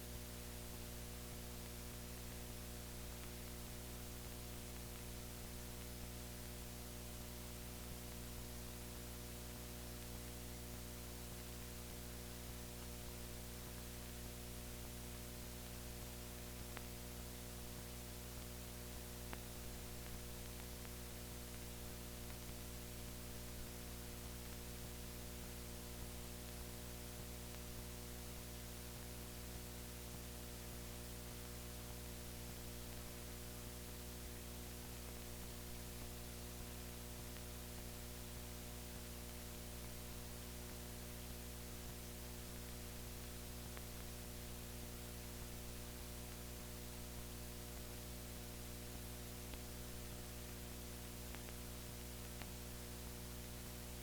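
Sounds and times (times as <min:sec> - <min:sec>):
film hiss: 0:00.0 - 0:54.0.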